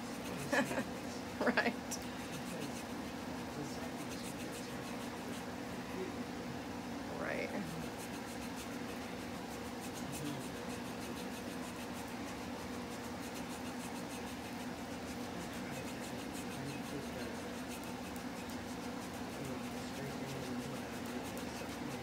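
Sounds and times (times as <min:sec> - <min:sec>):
steady low hum: 0:00.0 - 0:22.0
hands rubbing skin: 0:02.0 - 0:05.6, 0:07.6 - 0:22.0.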